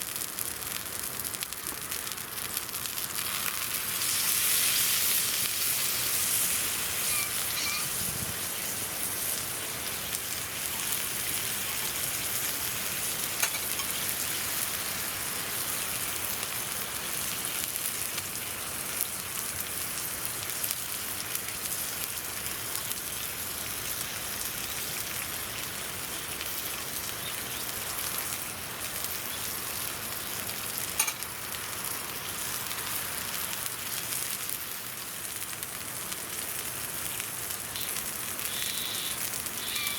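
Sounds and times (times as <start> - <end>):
beef sizzling over campfire: 0.0 - 39.9.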